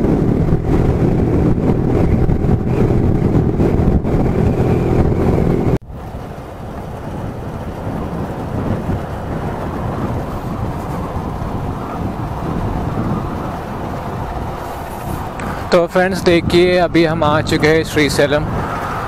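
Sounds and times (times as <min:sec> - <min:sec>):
motorcycle engine running: 0:00.0 - 0:15.7
wind rush on microphone: 0:00.0 - 0:19.0.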